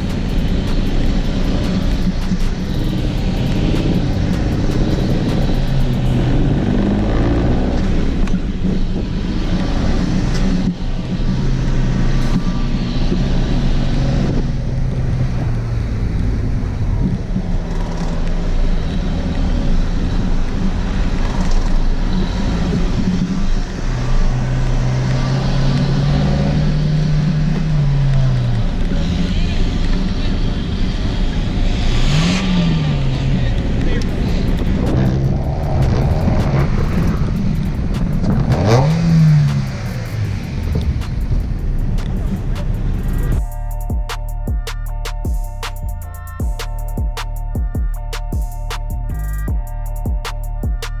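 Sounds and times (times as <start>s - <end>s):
car engine pulling at low revs: 0.0s - 43.4s.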